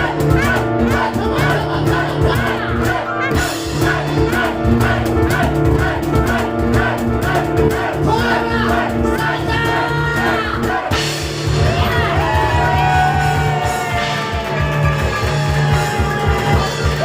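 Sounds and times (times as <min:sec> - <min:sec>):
audience shouting and cheering: 0:00.0 - 0:17.0
piano and cajon music: 0:00.0 - 0:17.0.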